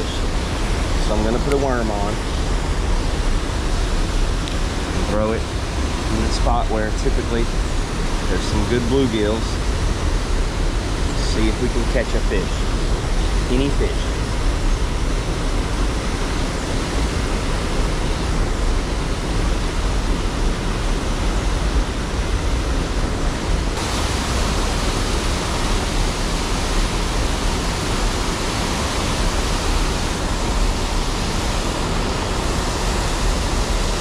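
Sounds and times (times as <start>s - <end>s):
small waterfall splashing: 0.0s - 34.0s.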